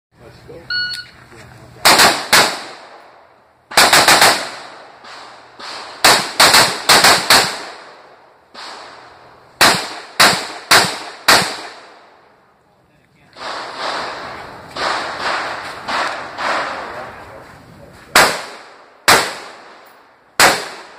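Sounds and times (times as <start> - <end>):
rifle shots echoing: 1.8 - 12.3, 13.4 - 17.2, 18.1 - 20.9.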